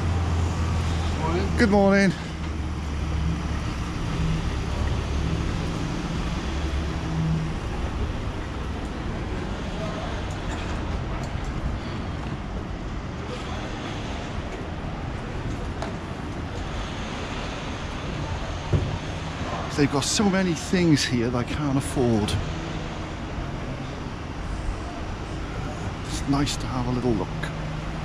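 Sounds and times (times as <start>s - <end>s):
street traffic noise: 0.0s - 28.0s
truck engine idling: 0.0s - 28.0s.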